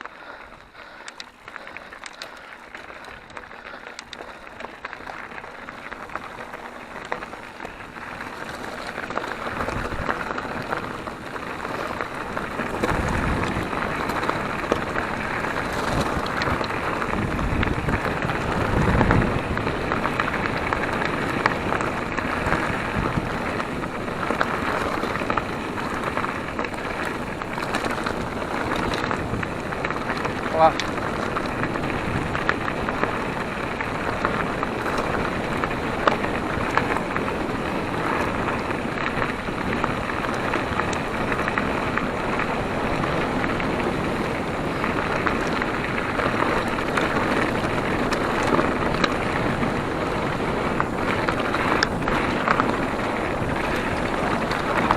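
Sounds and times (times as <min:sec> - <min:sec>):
bike tyres rolling on dirt trail: 0:00.0 - 0:54.9
wind buffeting microphone: 0:00.0 - 0:54.9.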